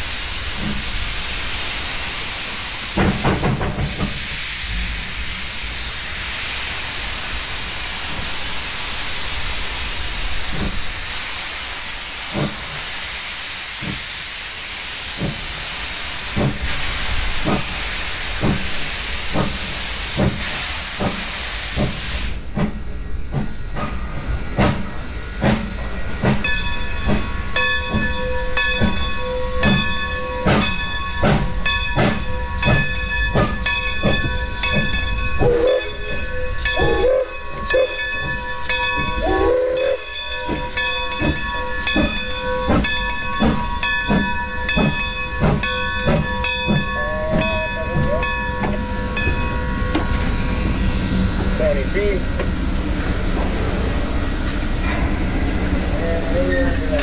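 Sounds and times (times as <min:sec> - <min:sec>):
steam hissing: 0:00.0 - 0:57.0
steam locomotive chuffing: 0:00.0 - 0:57.0.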